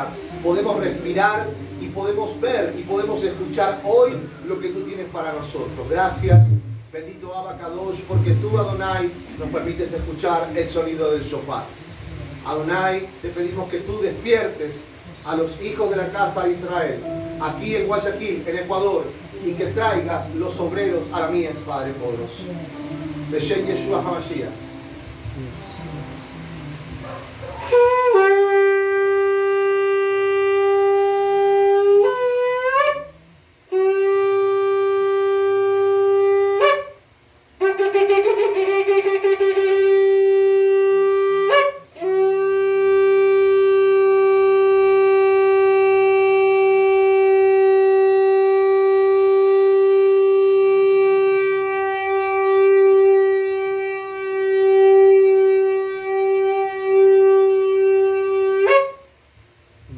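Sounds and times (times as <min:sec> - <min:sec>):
shofar blasts: 0:00.0 - 0:10.7, 0:15.9 - 0:25.9, 0:26.9 - 0:59.3.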